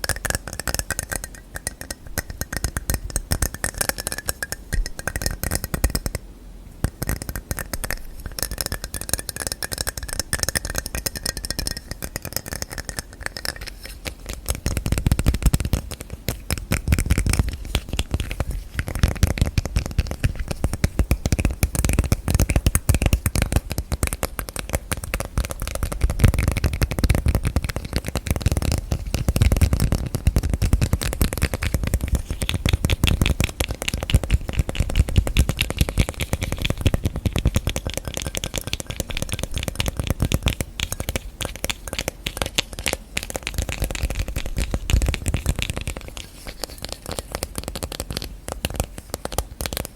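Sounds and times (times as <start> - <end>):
fingernail tapping on objects: 0.0 - 6.2, 6.8 - 49.9.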